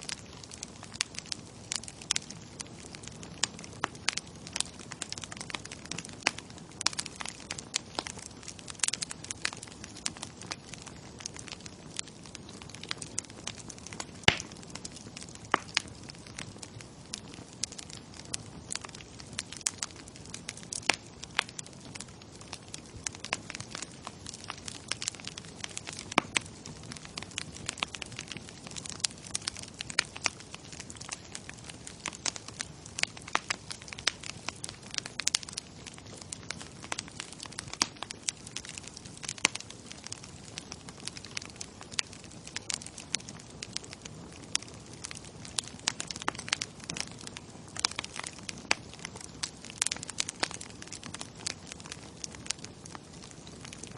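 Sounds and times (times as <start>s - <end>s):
bonfire flames rushing: 0.0s - 53.9s
burning wood crackling and popping: 0.0s - 53.9s.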